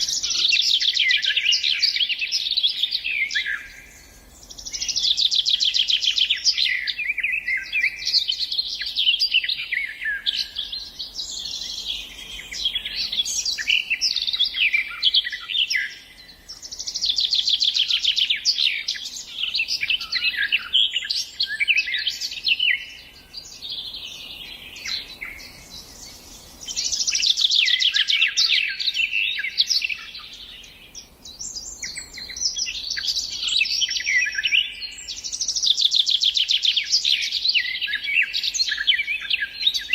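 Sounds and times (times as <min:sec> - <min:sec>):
songbird trilling song: 0:00.0 - 0:39.9.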